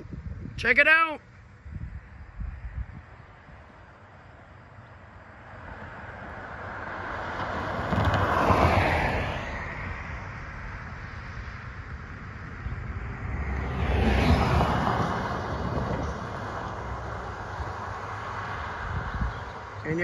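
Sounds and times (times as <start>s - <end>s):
vehicles passing by: 0.0s - 20.0s
pickup truck passing: 3.4s - 20.0s.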